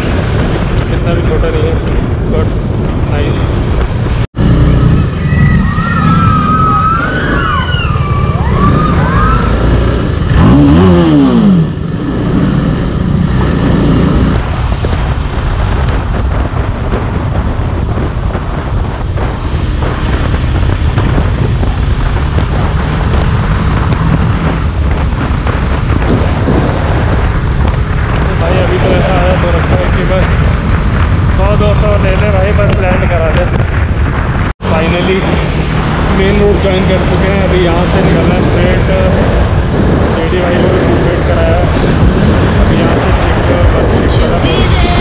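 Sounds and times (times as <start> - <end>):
wind and road noise: 0.0 - 45.0
motorcycle engine running: 8.0 - 45.0.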